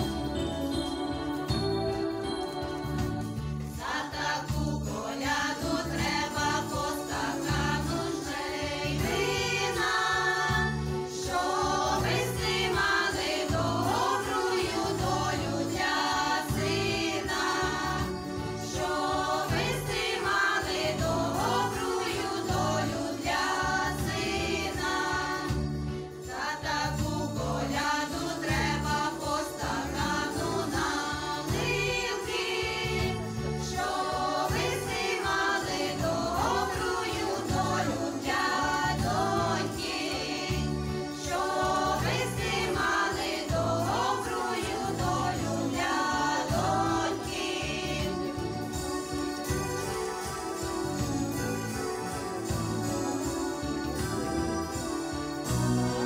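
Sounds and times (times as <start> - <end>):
women singing a carol: 0.0 - 49.7
keyboard accompaniment: 0.0 - 56.0.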